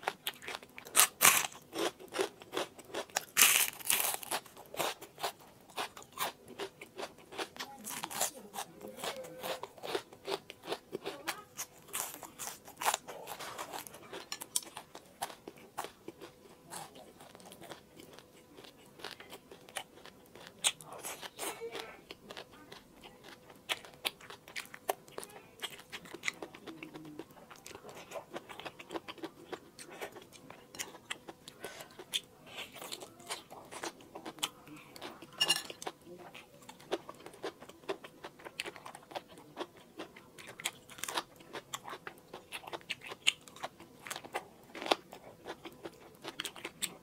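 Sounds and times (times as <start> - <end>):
chewing crispy food: 0.0 - 47.0.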